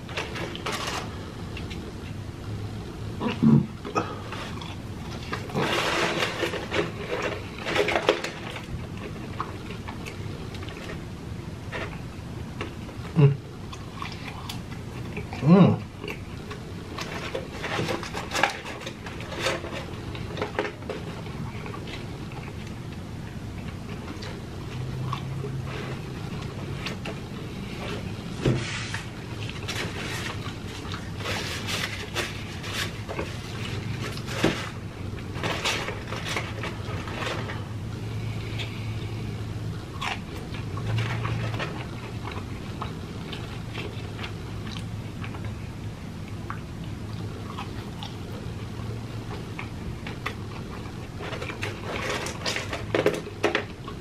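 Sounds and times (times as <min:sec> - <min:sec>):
chicken nuggets crunching: 0:04.2 - 0:15.4, 0:16.0 - 0:54.0.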